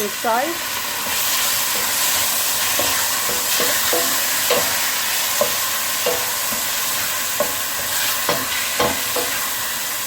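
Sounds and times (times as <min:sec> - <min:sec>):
mince and onions sizzling: 0:00.0 - 0:10.0.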